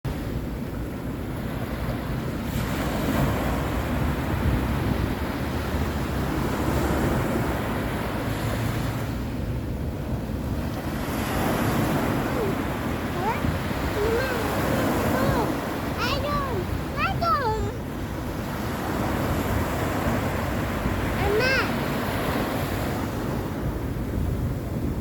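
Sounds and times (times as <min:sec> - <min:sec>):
sea surf washing onto shore: 0:00.1 - 0:25.0
wind rumbling on microphone: 0:00.1 - 0:25.0.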